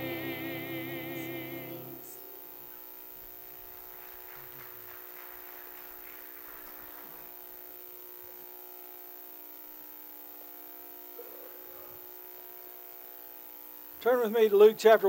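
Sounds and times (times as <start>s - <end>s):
steady electrical buzz: 0.0s - 15.0s.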